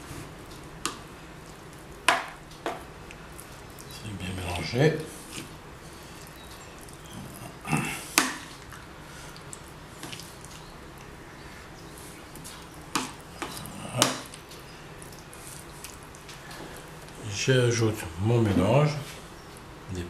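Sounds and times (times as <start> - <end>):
spoon stirring thick mixture: 0.8 - 18.8.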